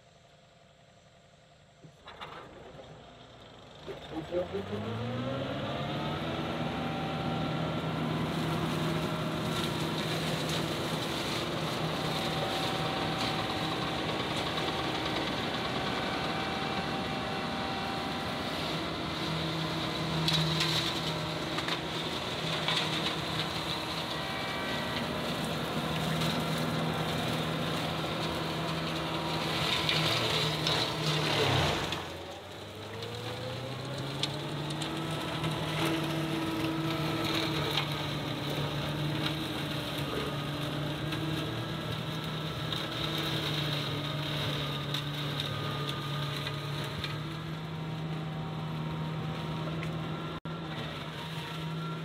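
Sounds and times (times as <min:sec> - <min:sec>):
tractor diesel engine under load: 0:01.6 - 0:52.0
flail mower chewing brush: 0:04.1 - 0:52.0.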